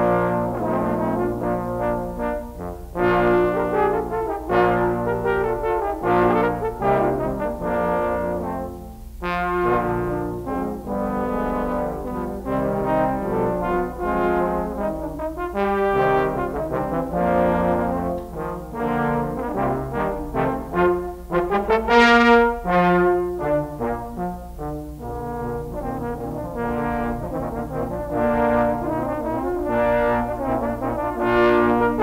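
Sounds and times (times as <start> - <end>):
trombone playing held notes: 0.0 - 32.0.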